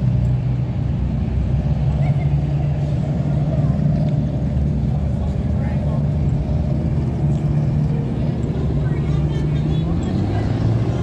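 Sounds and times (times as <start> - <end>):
car engine low rumble: 0.0 - 11.0
faint voices: 1.8 - 11.0.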